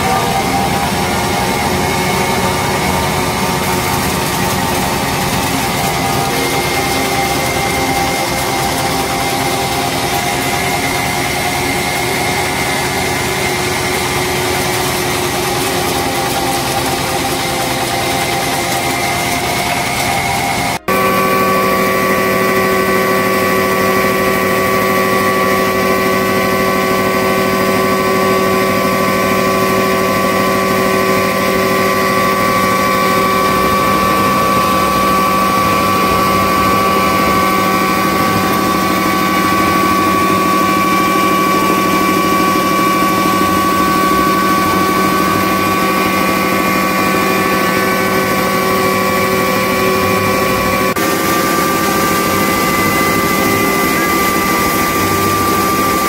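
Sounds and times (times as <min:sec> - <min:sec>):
grinding mill whine: 0:00.0 - 0:56.0.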